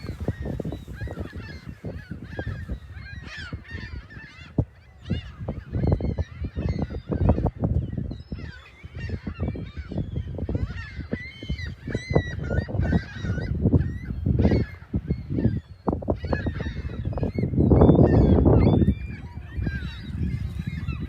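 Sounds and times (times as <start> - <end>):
gulls calling: 0.0 - 21.0.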